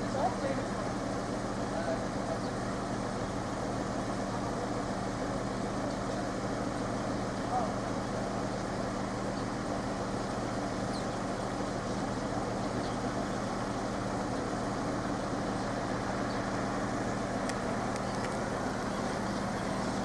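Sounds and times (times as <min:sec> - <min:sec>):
engine idling hum: 0:00.0 - 0:20.0
street noise: 0:00.0 - 0:20.0.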